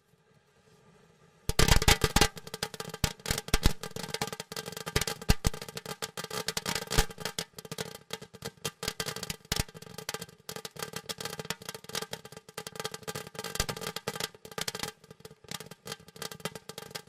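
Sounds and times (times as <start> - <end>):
firework crackling and popping: 1.5 - 17.0.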